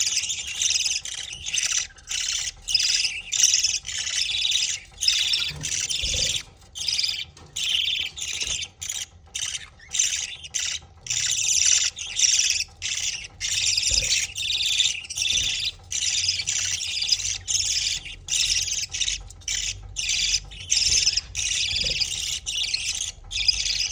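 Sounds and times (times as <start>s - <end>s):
budgerigar chicks begging squawks: 0.0s - 23.9s.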